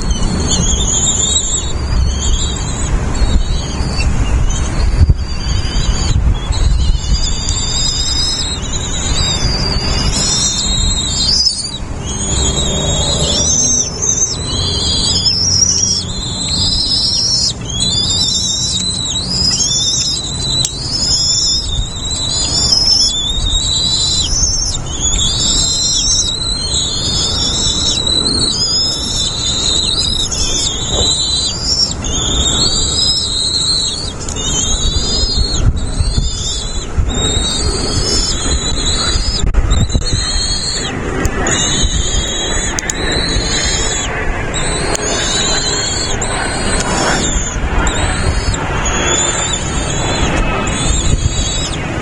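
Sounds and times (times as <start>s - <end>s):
low rumble: 0.0s - 52.0s
nestling birds chirping: 0.0s - 52.0s.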